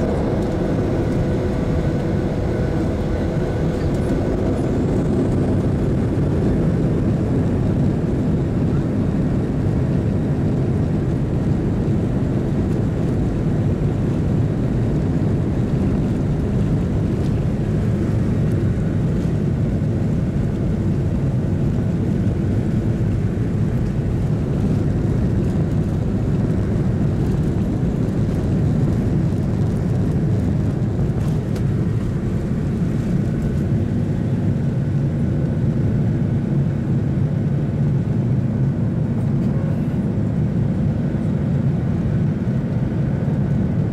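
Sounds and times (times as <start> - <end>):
aircraft cabin low rumble: 0.0 - 43.9.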